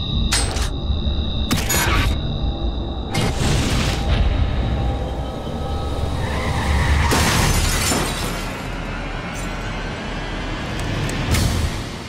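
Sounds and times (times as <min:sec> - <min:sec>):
dark trailer-style score: 0:00.0 - 0:12.0.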